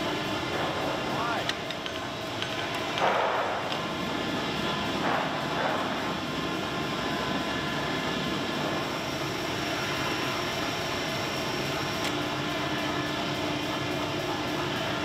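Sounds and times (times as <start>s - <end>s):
workshop machinery drone: 0.0s - 15.0s.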